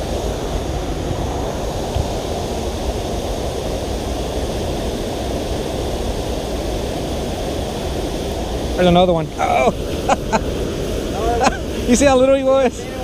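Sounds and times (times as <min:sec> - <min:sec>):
water rushing over rocky waterfall: 0:00.0 - 0:13.0.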